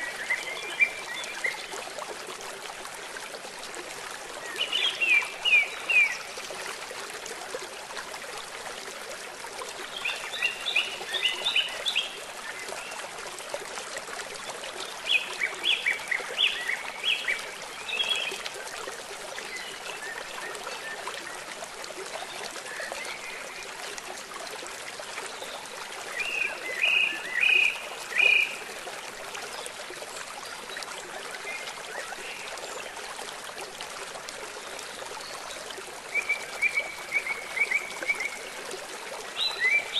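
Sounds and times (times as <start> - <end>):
rain and running water: 0.0 - 39.9.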